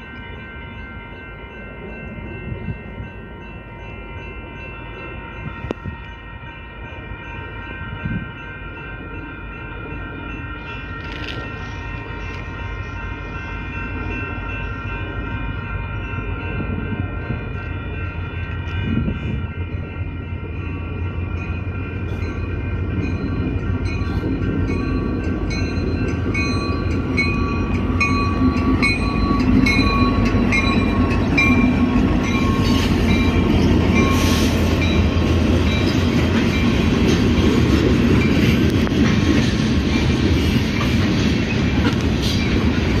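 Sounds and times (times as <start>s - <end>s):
freight train rumbling on rails: 0.0s - 43.0s.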